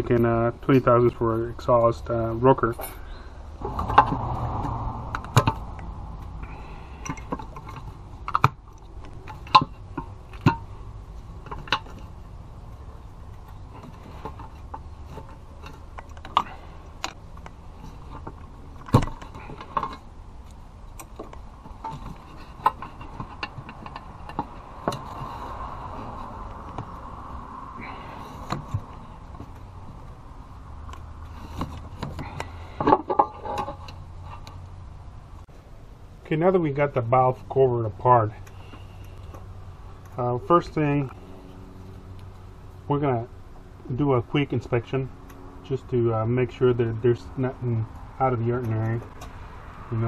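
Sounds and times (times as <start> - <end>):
low steady background hum: 0.0 - 50.0.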